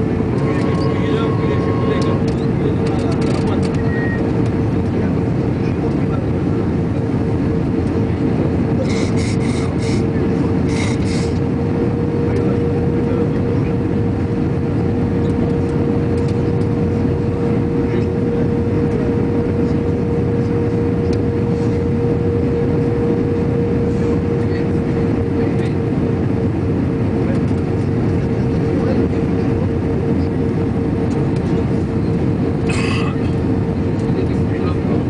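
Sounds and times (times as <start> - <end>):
droning hum: 0.0 - 35.0
jet engines and airflow roaring: 0.0 - 35.0.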